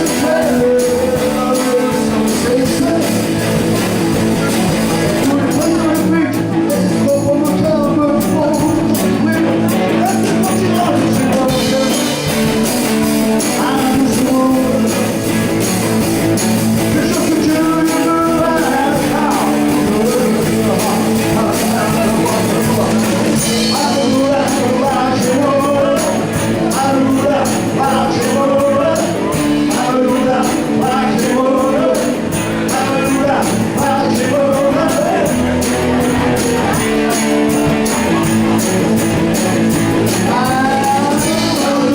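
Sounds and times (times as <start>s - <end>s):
person singing: 0.0s - 16.0s, 16.6s - 41.9s
rock and roll band playing: 0.0s - 41.9s.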